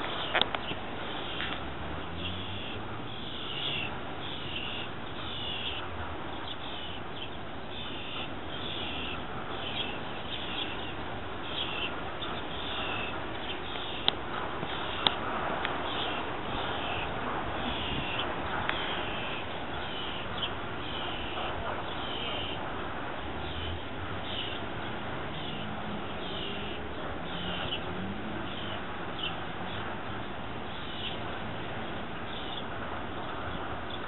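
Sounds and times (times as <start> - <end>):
bird calling: 0.0 - 15.2, 15.8 - 22.6, 23.4 - 24.7, 25.3 - 29.9.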